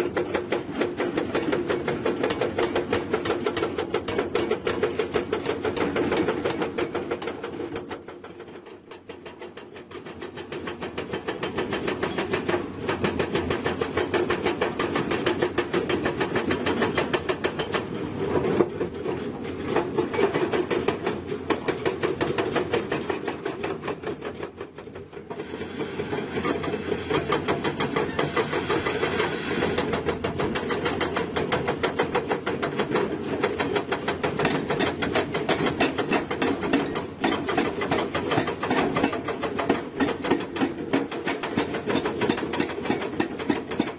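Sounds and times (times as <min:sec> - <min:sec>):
excavator clattering: 0:00.0 - 0:43.9.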